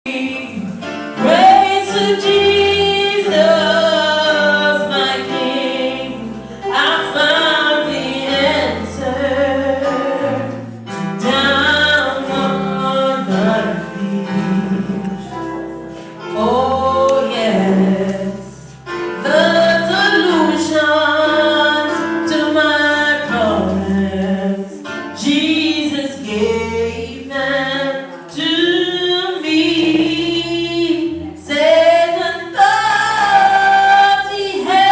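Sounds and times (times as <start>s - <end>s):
woman singing gospel: 0.1s - 34.9s.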